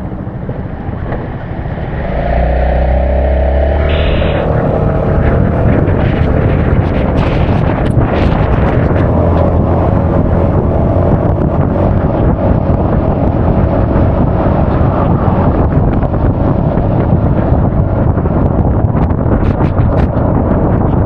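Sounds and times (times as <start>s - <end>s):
faint scooter engine drone: 0.0s - 21.0s
wind buffeting microphone: 0.0s - 21.0s.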